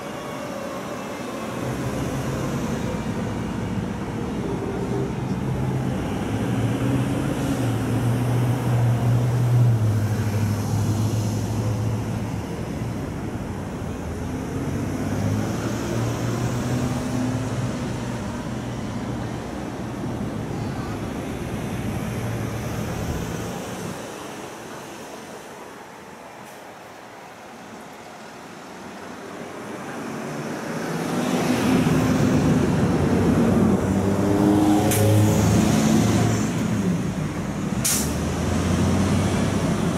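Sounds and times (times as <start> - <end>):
street traffic noise: 0.0 - 39.9.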